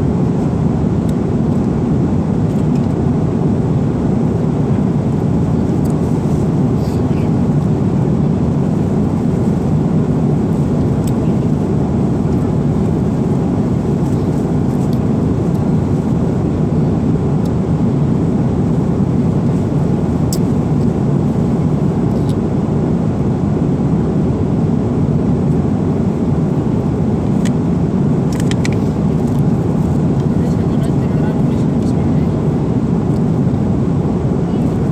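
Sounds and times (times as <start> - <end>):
airliner cabin noise: 0.0 - 34.9.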